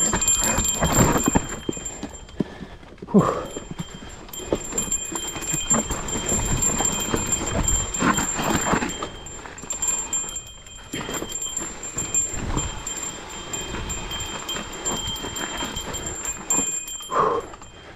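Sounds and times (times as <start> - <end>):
metallic jingling: 0.0 - 17.9
mountain bike rattling: 0.0 - 17.9
tyres crunching over dirt: 0.0 - 17.9.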